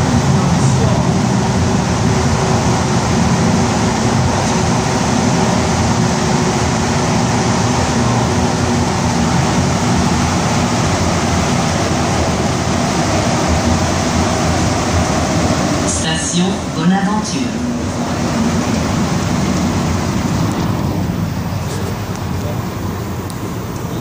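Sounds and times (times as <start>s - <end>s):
metro train rumbling in tunnel: 0.0s - 24.0s.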